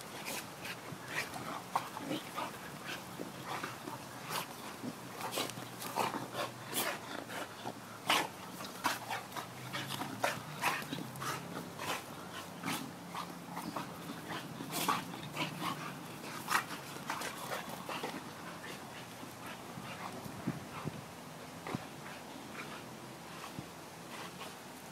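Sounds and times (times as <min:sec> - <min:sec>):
dogs play-wrestling: 0:00.0 - 0:24.9.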